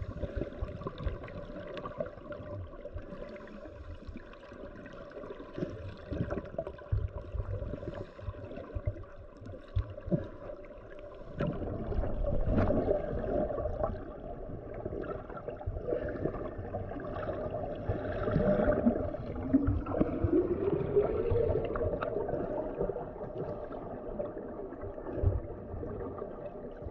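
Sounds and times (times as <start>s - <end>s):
scuba regulator bubbles gurgling: 0.0s - 26.9s.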